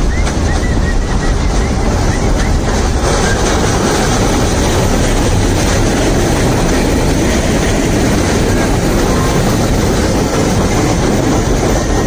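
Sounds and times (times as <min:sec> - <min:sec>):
freight wagons rumbling and rattling: 0:00.0 - 0:12.0.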